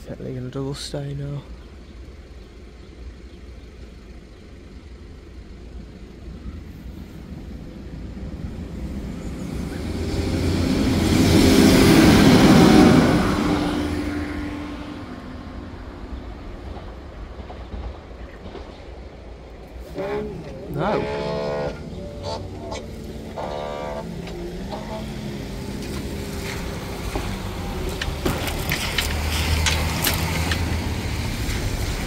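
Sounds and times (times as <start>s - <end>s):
train engine drone: 0.0s - 32.0s
train wheel and rail noise: 5.3s - 32.0s.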